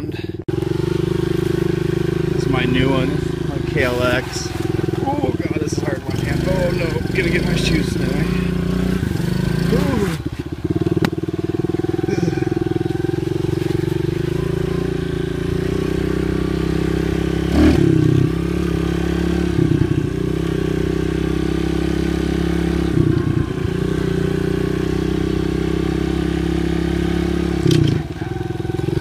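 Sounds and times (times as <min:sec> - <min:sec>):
small motorbike engine running: 0:00.0 - 0:29.0.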